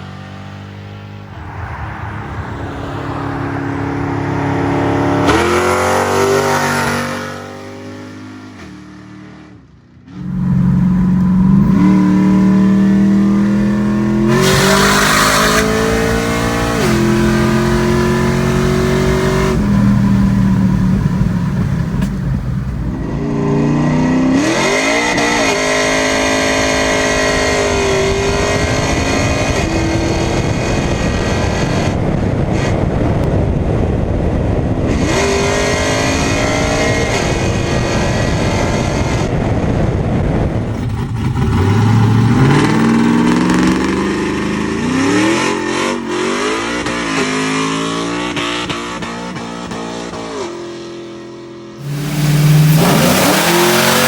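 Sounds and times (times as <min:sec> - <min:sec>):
car engine revving: 0:00.0 - 0:32.8, 0:40.5 - 0:54.0.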